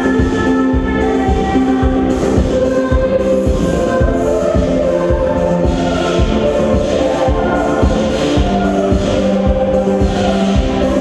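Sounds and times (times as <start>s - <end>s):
held chords with choir voices: 0.0s - 11.0s
steady bass beat: 0.0s - 11.0s.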